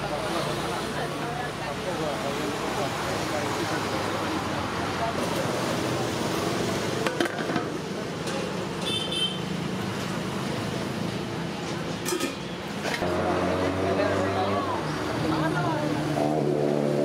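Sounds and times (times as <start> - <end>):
roadside traffic noise: 0.0 - 17.0.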